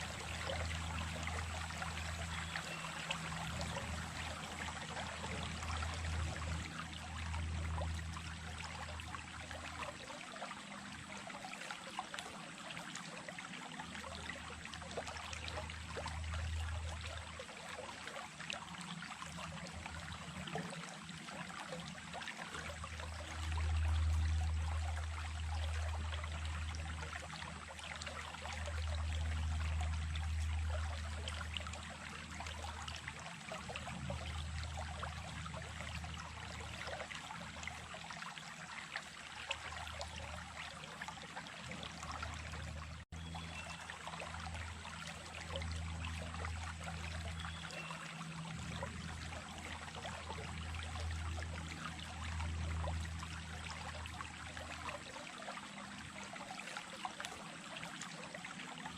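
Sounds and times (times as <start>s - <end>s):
stream water over stones: 0.0s - 58.9s.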